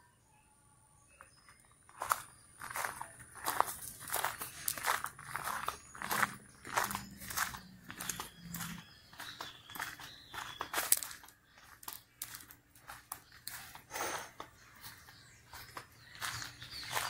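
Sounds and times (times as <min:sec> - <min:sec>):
crunching and rustling: 0:01.9 - 0:17.0.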